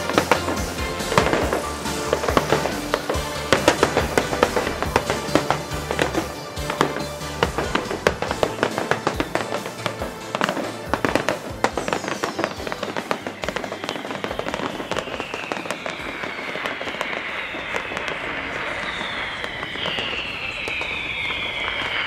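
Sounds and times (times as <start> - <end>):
background music: 0.0 - 19.6
falling whistling fireworks: 0.0 - 22.0
fireworks bangs and crackling: 0.0 - 22.0.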